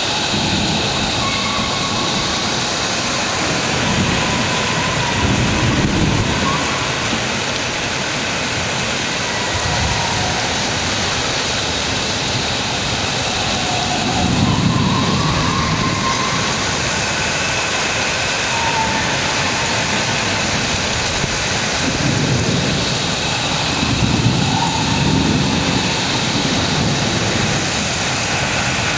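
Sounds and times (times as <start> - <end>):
storm hiss: 0.0 - 28.9
thunder rolling: 0.0 - 28.9.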